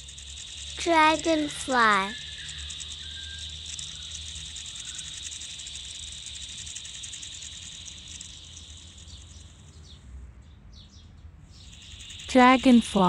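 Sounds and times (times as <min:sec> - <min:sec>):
insect buzzing: 0:00.0 - 0:10.0, 0:11.6 - 0:13.0.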